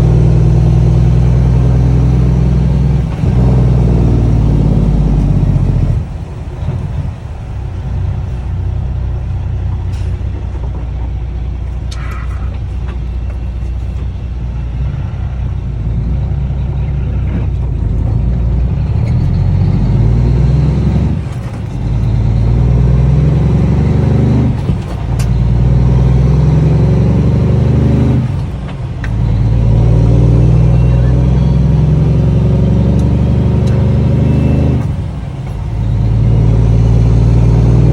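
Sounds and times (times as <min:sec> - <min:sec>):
loud diesel truck engine: 0:00.0 - 0:37.9.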